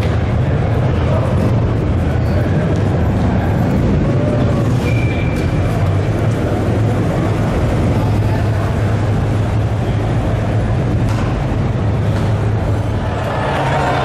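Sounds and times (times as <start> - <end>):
busy hall noise: 0.0 - 14.0
car engine exhaust rumble: 0.0 - 14.0.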